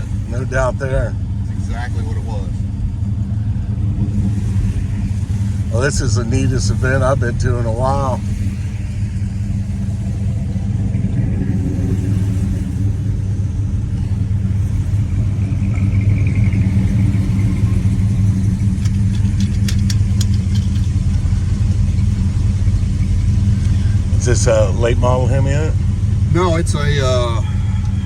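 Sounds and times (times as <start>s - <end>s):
car engine rumbling from inside: 0.0s - 28.0s.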